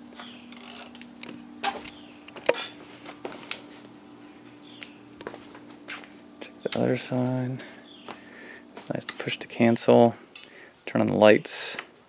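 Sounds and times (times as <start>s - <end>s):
high-pitched whine: 0.0s - 11.6s.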